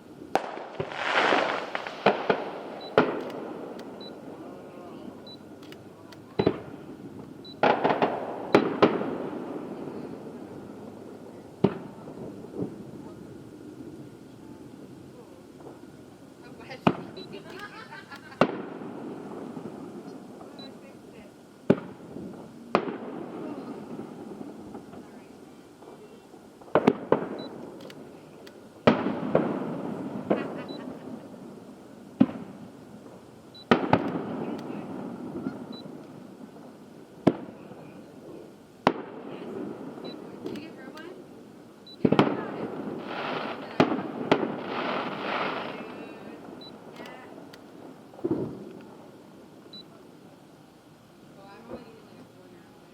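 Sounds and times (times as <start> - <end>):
fireworks shells bursting with echo: 0.0 - 49.7.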